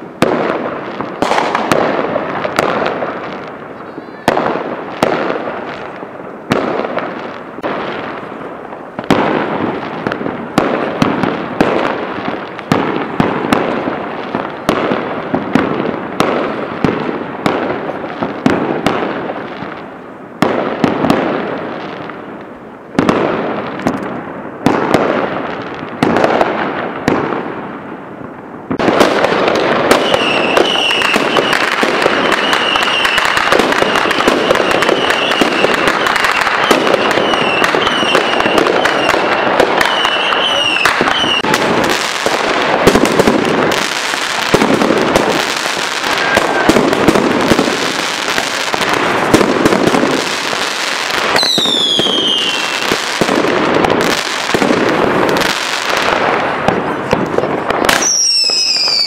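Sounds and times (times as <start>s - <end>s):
fireworks bangs with crackle: 0.0s - 59.0s.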